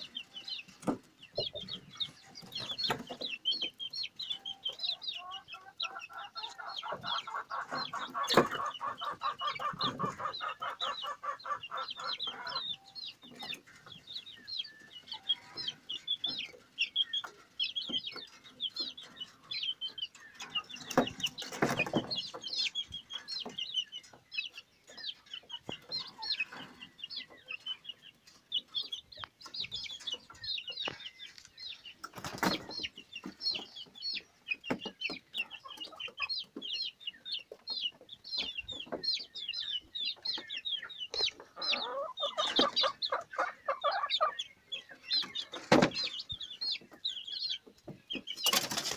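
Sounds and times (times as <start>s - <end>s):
chicks peeping: 0.0s - 48.9s.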